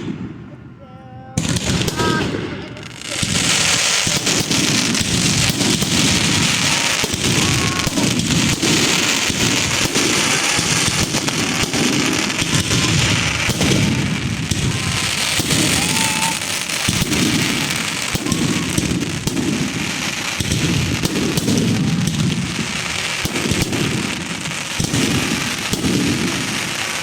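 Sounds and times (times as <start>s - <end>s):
fireworks crackling: 0.0s - 27.0s
rumble of fireworks booms: 0.0s - 27.0s.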